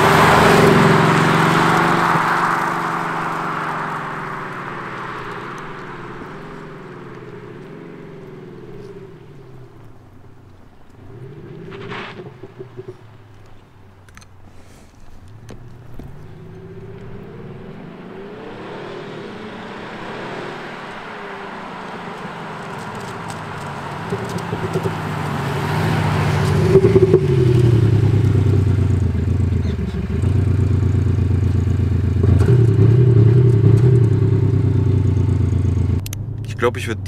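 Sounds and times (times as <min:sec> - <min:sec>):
car engine accelerating past: 0:00.0 - 0:14.0, 0:14.8 - 0:36.7
exhaust crackling pops: 0:00.0 - 0:37.0.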